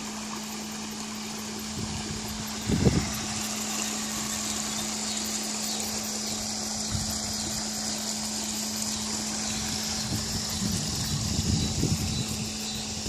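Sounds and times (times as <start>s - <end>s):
low hum: 0.0s - 13.0s
waterfall splashing into pond: 0.0s - 13.0s.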